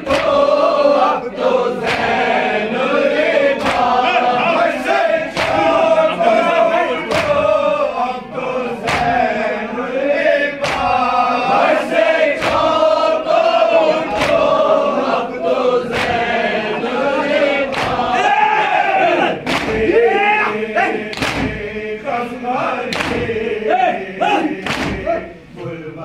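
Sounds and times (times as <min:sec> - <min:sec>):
men chanting together: 0:00.0 - 0:26.0
rhythmic chest-beating slaps: 0:00.0 - 0:26.0.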